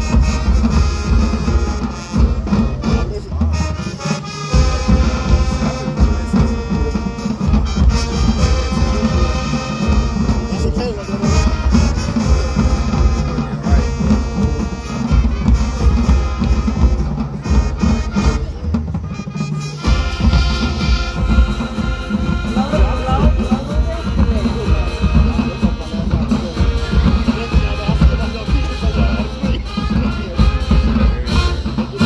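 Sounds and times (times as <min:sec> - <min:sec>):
drumline with bass drums: 0:00.0 - 0:32.0
marching band brass: 0:00.0 - 0:32.0.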